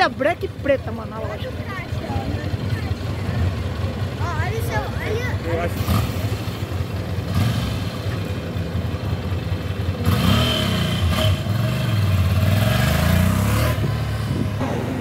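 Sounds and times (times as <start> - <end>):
motorcycle engine pulling away: 1.3 - 15.0.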